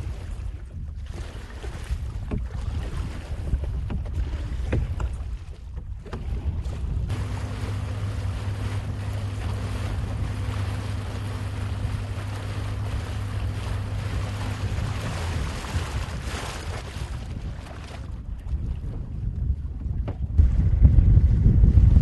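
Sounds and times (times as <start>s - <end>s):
low motor hum: 0.0s - 22.0s
wind rushing over microphone: 0.0s - 22.0s.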